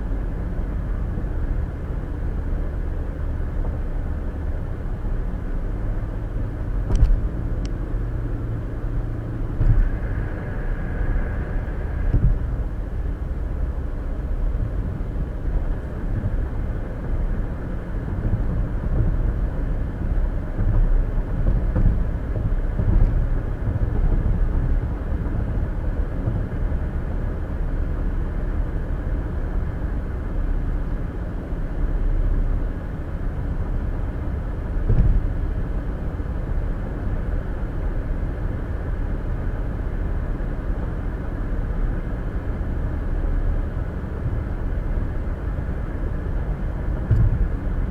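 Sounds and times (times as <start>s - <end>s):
road and tyre noise inside car: 0.0s - 47.9s.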